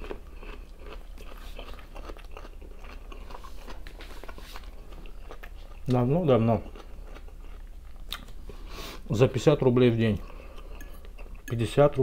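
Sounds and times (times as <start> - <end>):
person chewing food: 0.0 - 9.1, 10.1 - 11.6.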